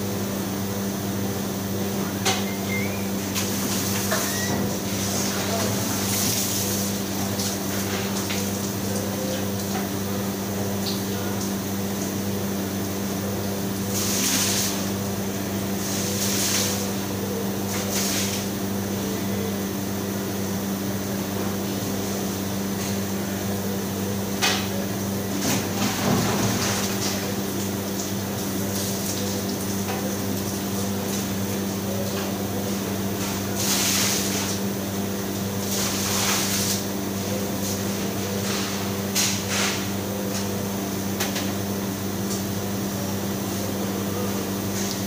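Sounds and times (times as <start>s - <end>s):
refrigeration and ventilation hum: 0.0s - 45.0s.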